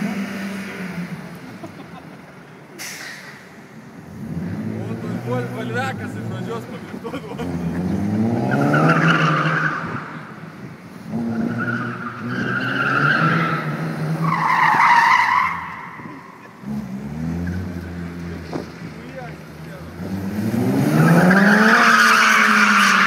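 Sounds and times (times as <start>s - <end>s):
car engine revving: 4.0s - 23.0s.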